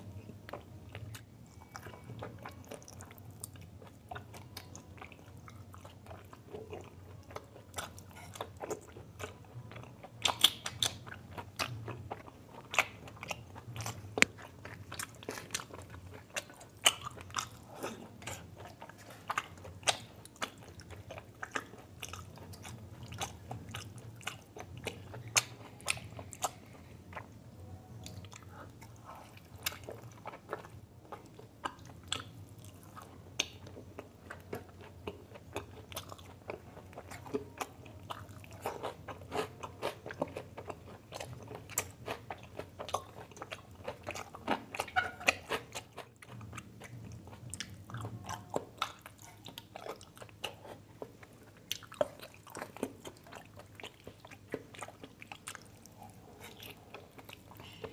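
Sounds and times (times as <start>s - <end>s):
chewing with mouth clicks: 0.0s - 57.9s.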